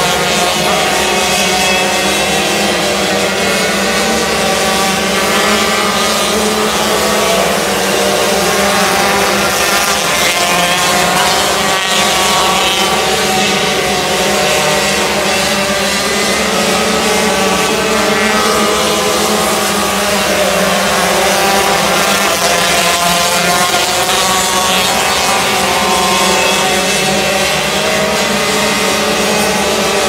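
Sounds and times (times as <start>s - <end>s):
racing car engines droning: 0.0s - 30.0s.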